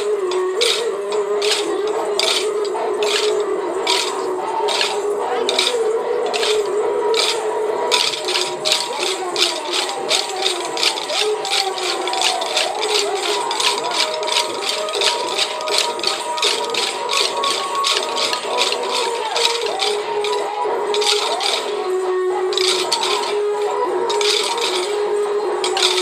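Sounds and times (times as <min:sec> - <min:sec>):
music: 0:00.0 - 0:26.0
wooden sticks clacking: 0:00.0 - 0:26.0.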